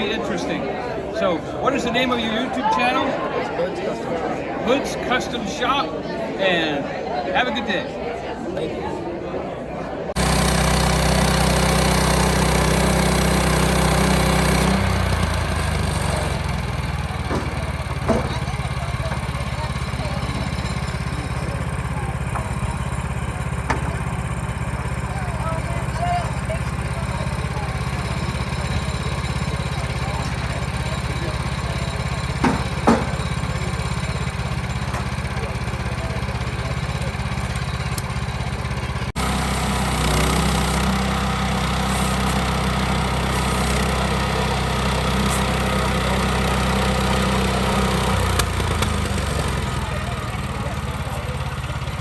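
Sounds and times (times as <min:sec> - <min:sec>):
engine humming: 0:00.0 - 0:52.0.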